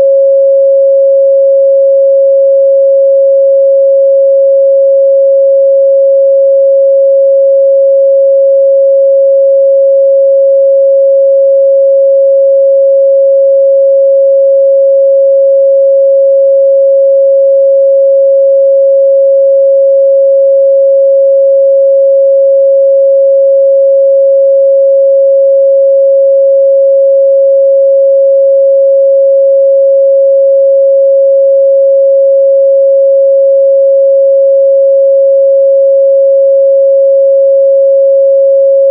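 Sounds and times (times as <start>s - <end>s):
sine wave test tone: 0.0s - 38.9s.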